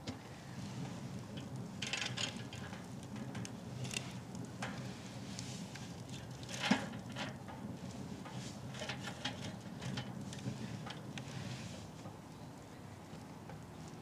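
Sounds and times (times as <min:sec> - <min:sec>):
wood fire crackling: 0:00.2 - 0:14.0.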